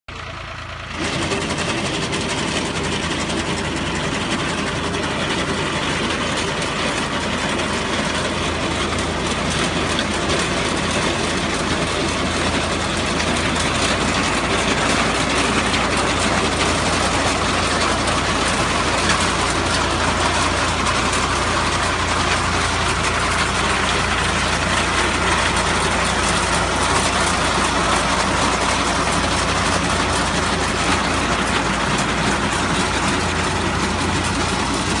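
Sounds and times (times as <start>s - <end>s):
tractor engine and machinery: 0.1s - 35.0s.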